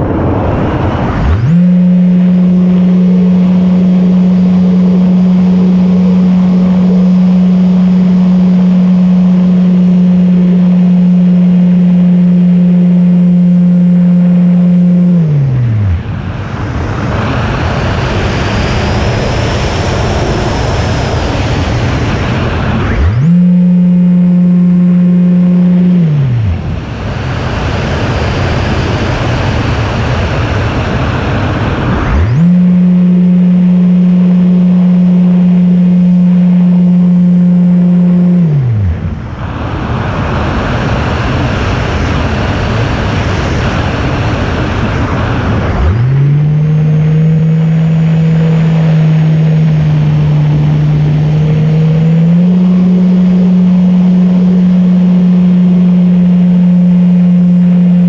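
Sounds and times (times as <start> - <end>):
rushing airflow: 0.0 - 58.0.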